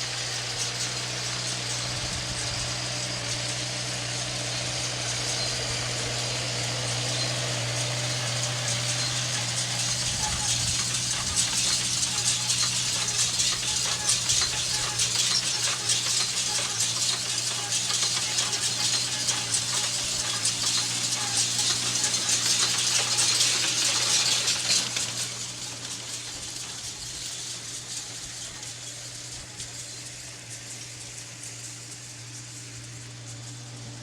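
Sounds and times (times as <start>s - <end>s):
straw baler rattling: 0.0s - 34.0s
tractor engine running: 0.0s - 34.0s.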